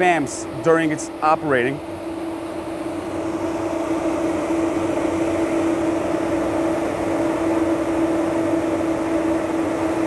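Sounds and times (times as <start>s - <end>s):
electric cooling fan running: 0.0s - 10.0s.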